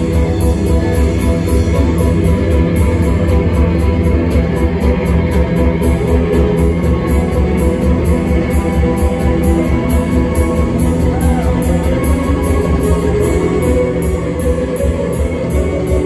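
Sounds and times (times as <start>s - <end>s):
bass guitar: 0.0s - 16.0s
drum kit: 0.0s - 16.0s
electric guitars: 0.0s - 16.0s
keyboard: 0.0s - 16.0s.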